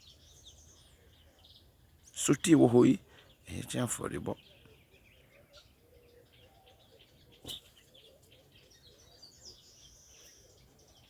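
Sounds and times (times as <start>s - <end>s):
faint small bird chirping: 0.0s - 3.6s, 4.2s - 11.0s.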